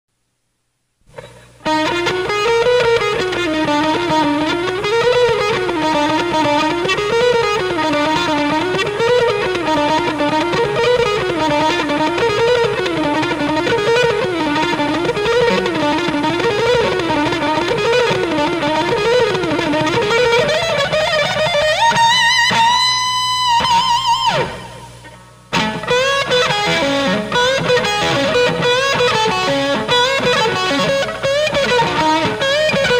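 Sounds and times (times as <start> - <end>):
electric guitar lead line: 1.1 - 32.9.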